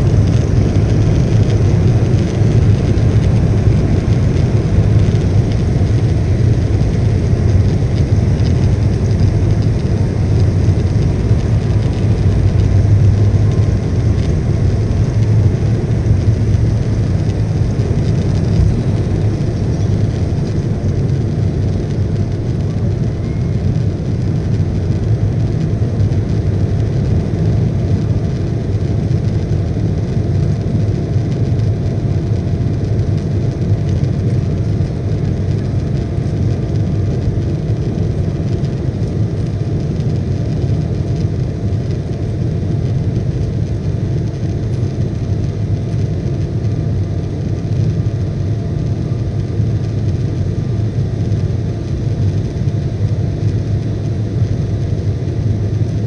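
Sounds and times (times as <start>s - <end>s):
jet engines low rumble: 0.0s - 56.0s.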